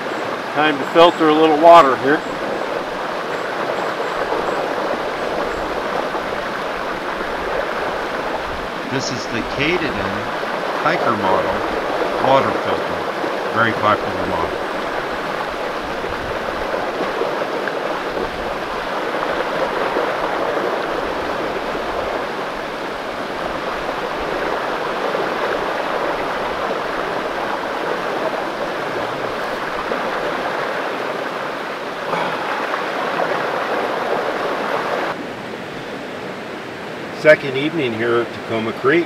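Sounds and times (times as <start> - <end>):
creek water flowing: 0.0 - 39.0.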